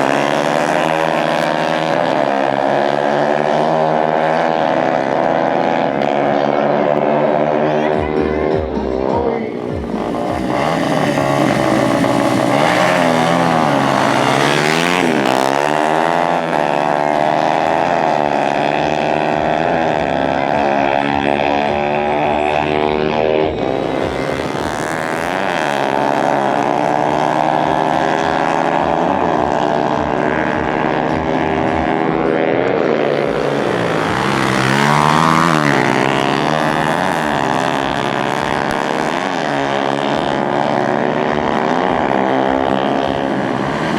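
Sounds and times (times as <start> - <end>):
dirt bike engines revving: 0.0 - 43.9.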